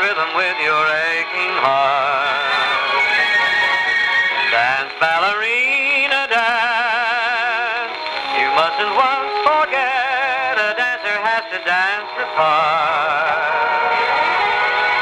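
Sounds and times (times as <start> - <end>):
gramophone record of person singing: 0.0 - 15.0.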